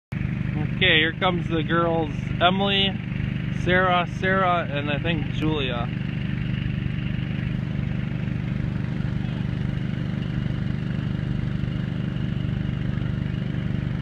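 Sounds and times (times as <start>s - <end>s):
engine running steadily: 0.1s - 14.0s.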